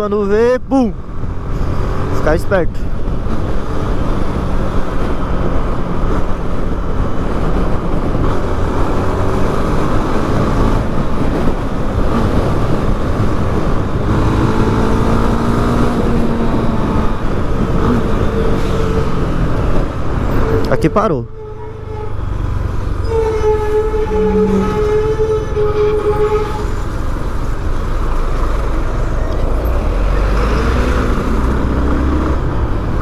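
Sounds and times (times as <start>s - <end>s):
wind and road noise: 0.0s - 33.0s.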